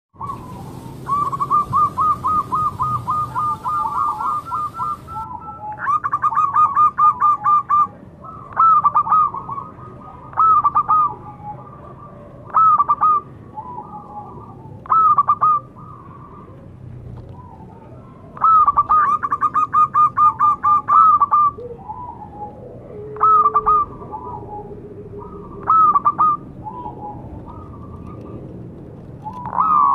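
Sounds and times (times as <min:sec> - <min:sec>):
dove cooing: 0:00.2 - 0:28.6, 0:29.2 - 0:29.9.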